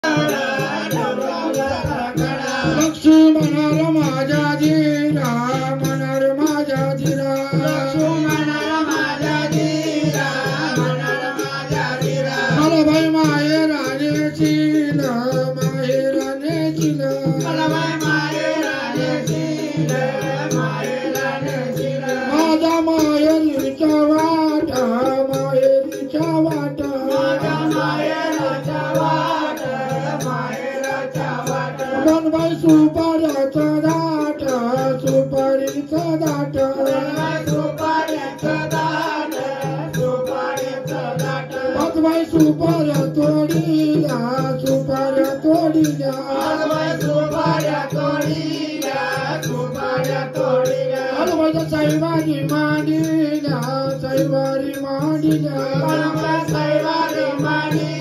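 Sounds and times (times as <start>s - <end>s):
man singing into microphone: 0.0s - 58.0s
rattling hand percussion: 0.0s - 58.0s.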